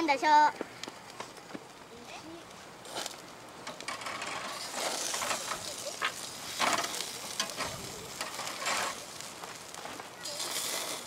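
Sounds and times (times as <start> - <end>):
fat crackling and popping: 0.0 - 11.0
chicken sizzling on a grill: 1.2 - 11.0.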